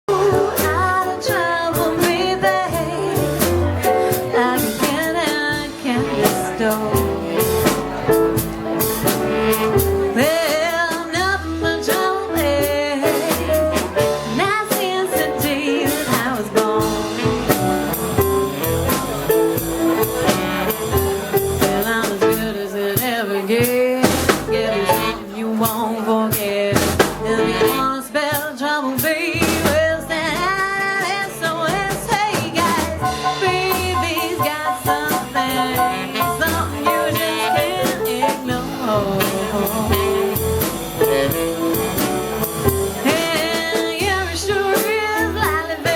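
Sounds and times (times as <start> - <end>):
band playing up-tempo song: 0.1 - 45.9
drum kit beat: 0.1 - 45.9
walking bass: 0.1 - 45.9.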